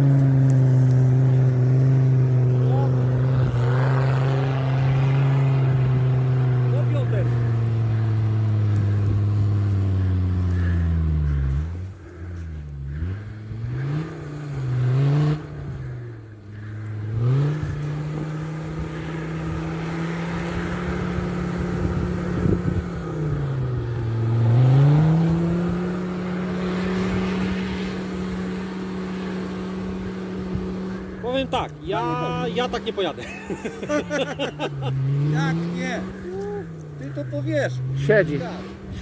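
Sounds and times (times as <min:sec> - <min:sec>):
engine revving hard: 0:00.0 - 0:39.0.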